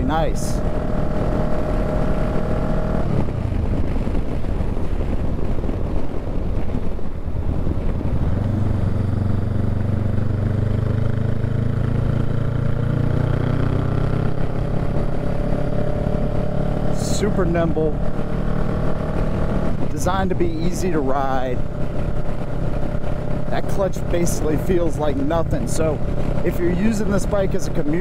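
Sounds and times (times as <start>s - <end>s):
motorcycle engine running: 0.0s - 28.0s
wind noise: 0.0s - 28.0s.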